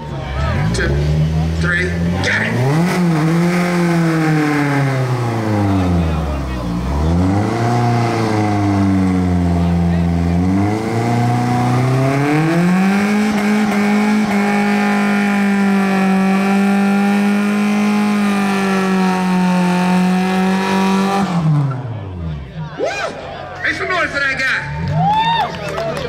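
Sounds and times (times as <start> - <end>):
car engine revving hard: 0.4 - 22.5.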